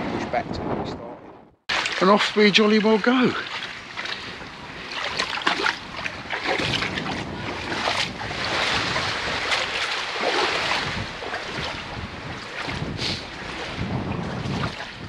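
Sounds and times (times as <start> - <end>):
water swishing and splashing: 1.7 - 15.0.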